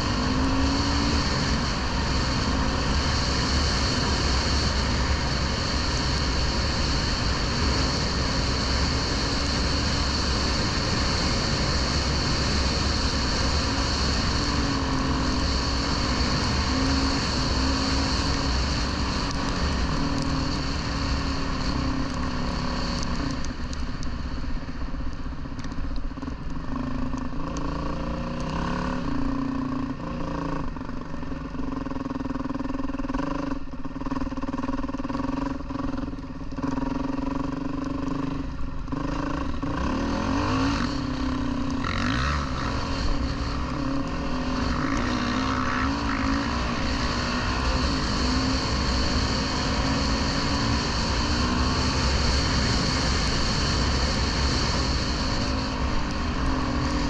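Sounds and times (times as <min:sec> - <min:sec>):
dirt bike engine revving: 0:00.0 - 0:23.4, 0:31.7 - 0:57.0.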